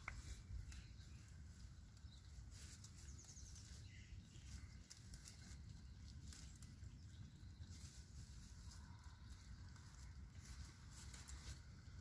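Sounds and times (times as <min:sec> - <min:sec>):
sheep chewing leaves: 0:00.0 - 0:12.0.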